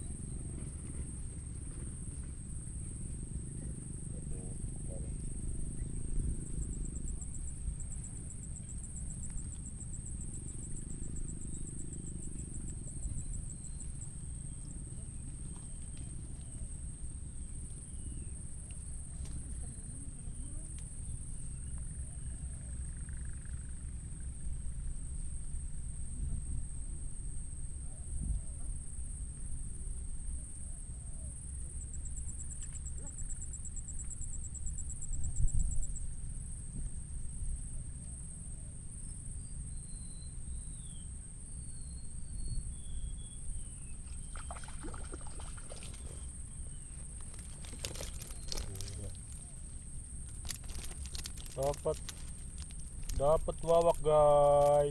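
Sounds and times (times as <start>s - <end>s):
insects chirring: 0.0s - 54.9s
low background rumble: 0.0s - 54.9s.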